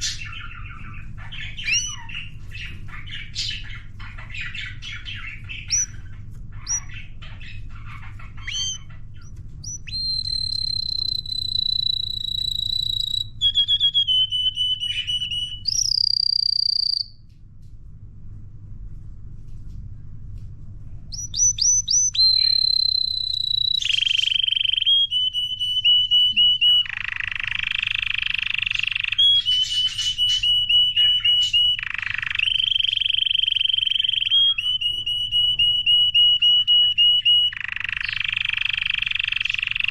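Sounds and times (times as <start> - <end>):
canary singing: 0.0 - 17.2, 21.1 - 39.9.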